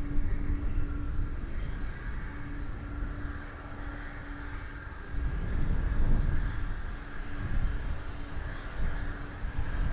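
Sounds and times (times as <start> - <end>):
jet airliner engine rumble: 0.0 - 9.9.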